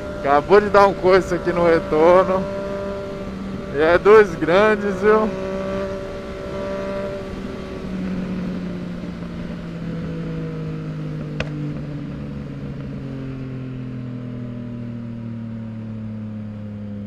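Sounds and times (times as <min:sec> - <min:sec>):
motorcycle engine riding: 0:00.0 - 0:17.0.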